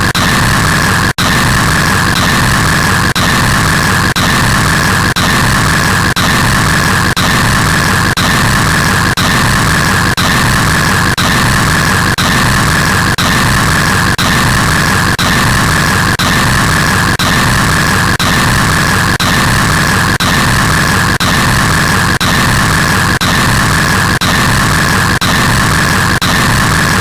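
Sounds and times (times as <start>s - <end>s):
harsh static noise: 0.0s - 27.0s.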